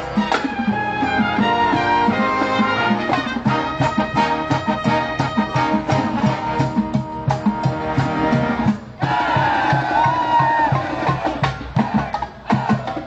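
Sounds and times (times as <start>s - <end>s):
brass band with drums: 0.0s - 13.0s.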